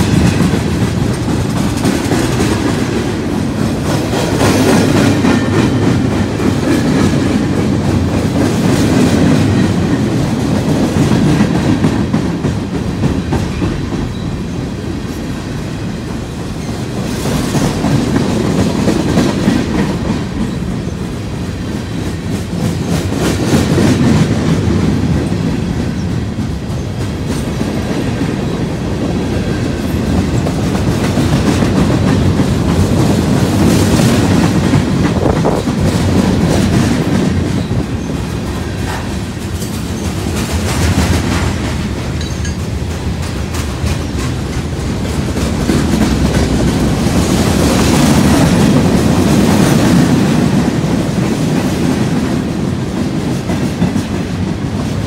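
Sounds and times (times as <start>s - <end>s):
clickety-clack of rail joints: 0.0s - 55.0s
train wheels rumbling on rail: 0.0s - 55.0s.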